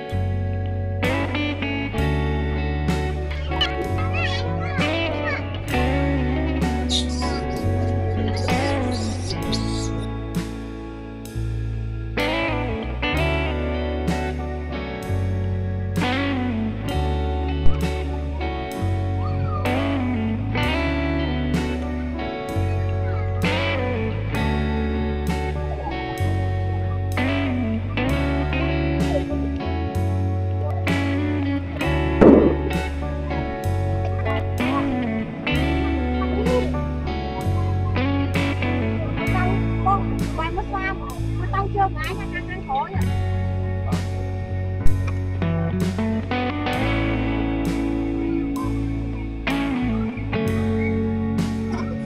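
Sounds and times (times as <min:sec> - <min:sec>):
background music: 0:00.0 - 0:52.0
plucked guitar chords: 0:00.0 - 0:52.0
steady bass: 0:00.0 - 0:52.0.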